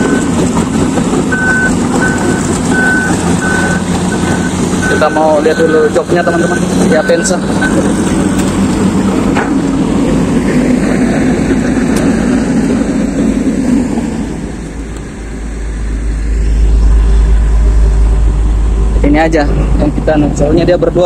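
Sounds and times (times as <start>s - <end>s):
deep low rumble: 0.0s - 21.0s
excavator engines humming: 0.0s - 21.0s.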